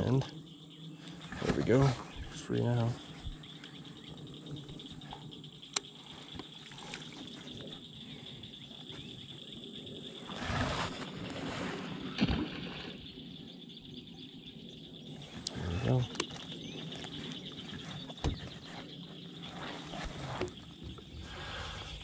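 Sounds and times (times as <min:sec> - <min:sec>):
water lapping around boat: 0:01.0 - 0:13.5, 0:15.0 - 0:22.0.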